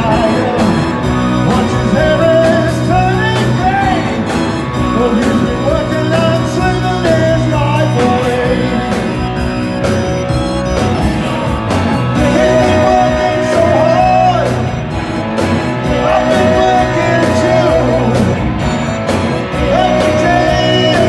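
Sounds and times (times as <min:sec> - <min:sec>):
lead line long notes: 0:00.0 - 0:21.0
live rock band playing: 0:00.0 - 0:21.0.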